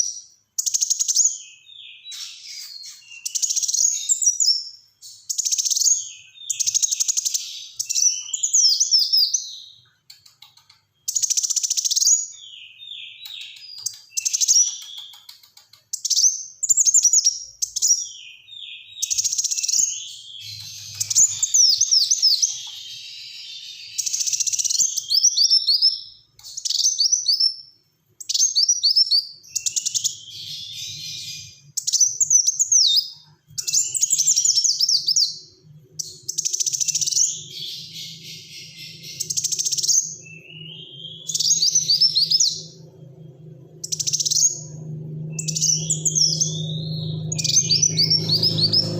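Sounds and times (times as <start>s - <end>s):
sunbird singing: 0.0s - 48.9s.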